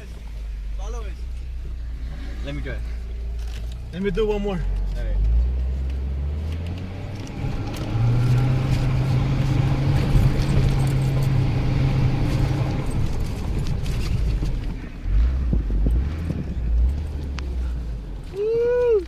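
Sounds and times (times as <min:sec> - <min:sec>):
suv engine revving: 0:00.0 - 0:19.0.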